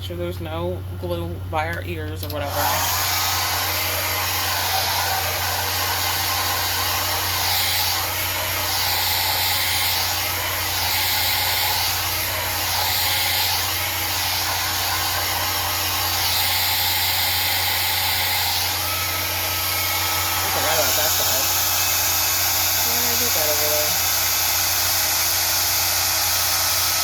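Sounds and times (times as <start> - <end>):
hair dryer blowing: 2.2 - 27.0.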